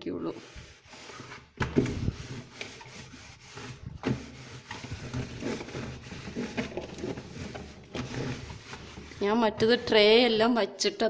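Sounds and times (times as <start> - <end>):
cloth scrubbing fridge walls: 0.0 - 10.6.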